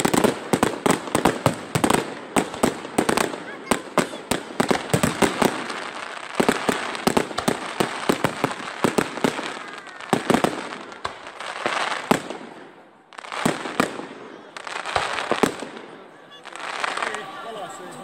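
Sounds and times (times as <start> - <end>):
crackling hiss of fireworks: 0.0 - 18.0
fireworks bangs: 0.0 - 18.0.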